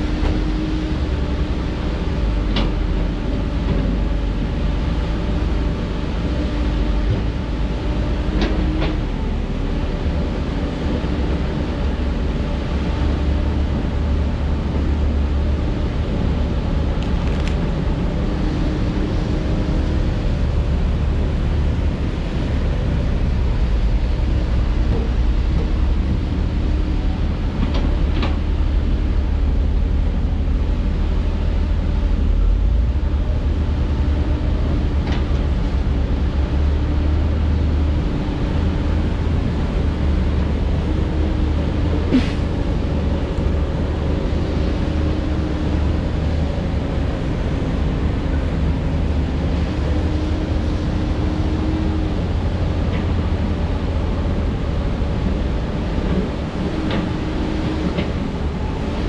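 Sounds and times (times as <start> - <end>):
diesel machinery engine rumble: 0.0 - 59.0.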